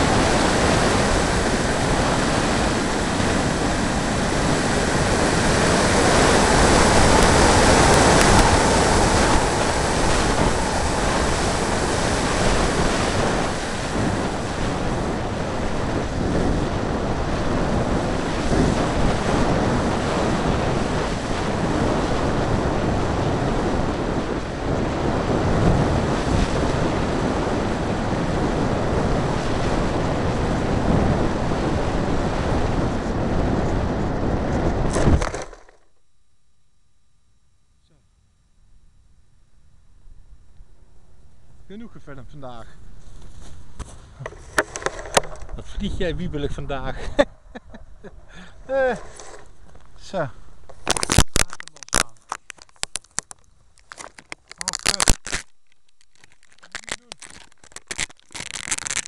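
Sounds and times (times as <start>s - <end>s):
wind roar over microphone: 0.0s - 35.8s, 38.7s - 55.4s, 56.1s - 59.0s.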